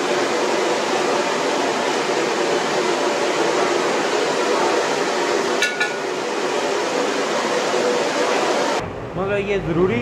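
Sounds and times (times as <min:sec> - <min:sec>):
gas burner rushing: 0:00.0 - 0:10.0.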